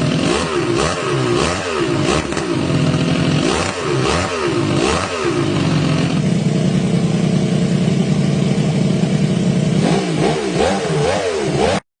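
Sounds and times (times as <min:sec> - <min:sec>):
motorcycle engine idling and revving: 0:00.0 - 0:11.9.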